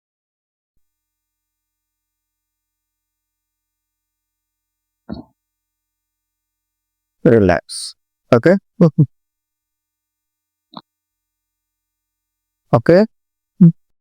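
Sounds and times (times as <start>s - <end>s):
faint steady hum: 0.8s - 13.8s.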